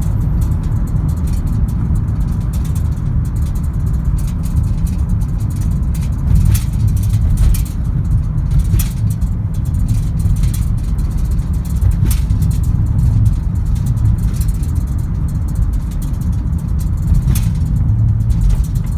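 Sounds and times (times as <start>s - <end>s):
car road and engine rumble: 0.0s - 18.9s.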